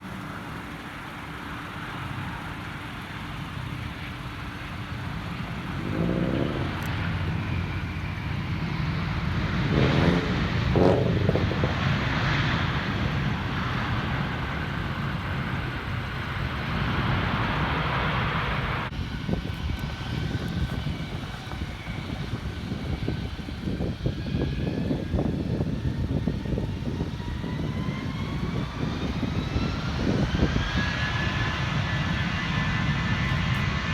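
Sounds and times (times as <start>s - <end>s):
jet engines rumbling: 0.0s - 33.9s
rising engine whine: 0.0s - 33.9s.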